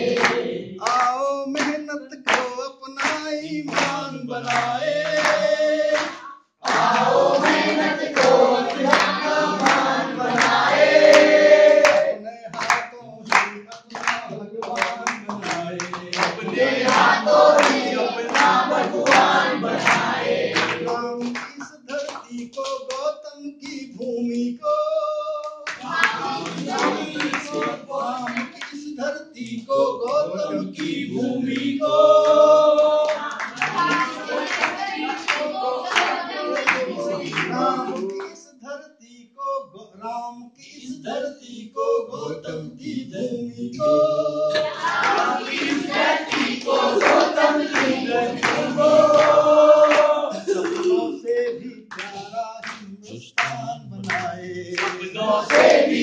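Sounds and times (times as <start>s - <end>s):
hand clapping in time: 0.0s - 23.8s, 25.4s - 28.8s, 30.8s - 38.3s, 44.5s - 51.1s, 51.9s - 56.0s
group of voices singing: 0.0s - 56.0s.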